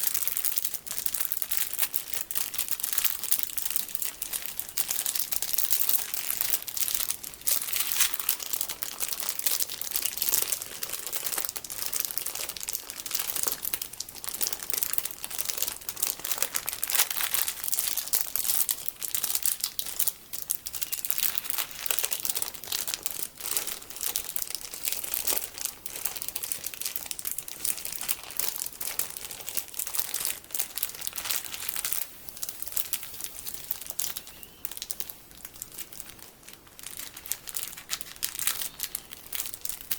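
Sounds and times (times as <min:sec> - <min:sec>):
plastic packaging crinkling: 0:00.0 - 0:39.9.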